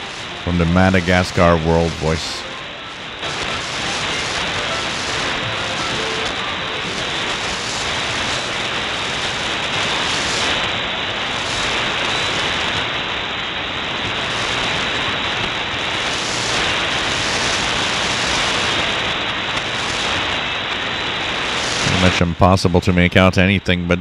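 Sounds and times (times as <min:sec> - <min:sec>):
radio static and hiss: 0:00.0 - 0:24.0.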